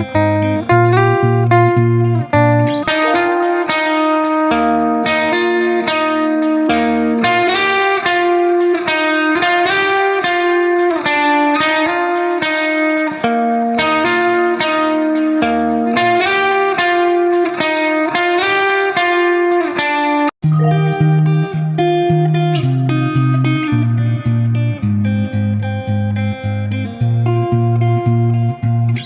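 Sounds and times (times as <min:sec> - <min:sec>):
plucked guitar repeated notes: 0:00.0 - 0:29.0.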